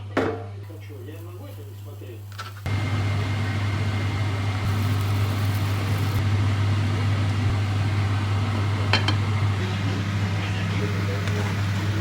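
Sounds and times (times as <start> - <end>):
low electrical motor hum: 0.0 - 12.0.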